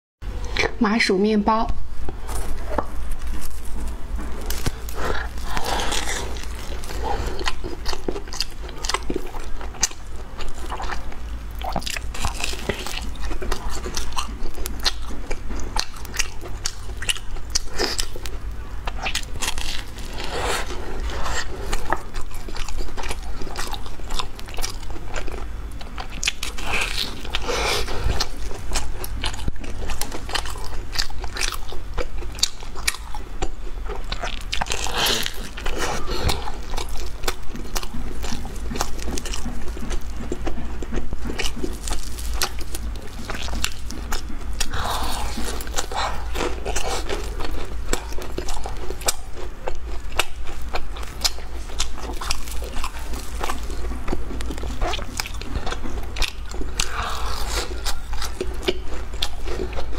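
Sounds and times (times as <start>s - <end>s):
wet chewing: 2.0s - 59.9s
bread crust crunching: 2.1s - 33.1s, 34.0s - 59.9s.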